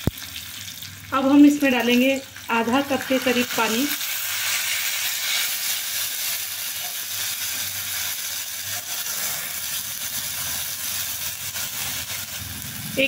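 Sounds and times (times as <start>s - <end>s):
oil hissing and sizzling: 0.0s - 13.0s
water boiling into steam: 2.2s - 13.0s.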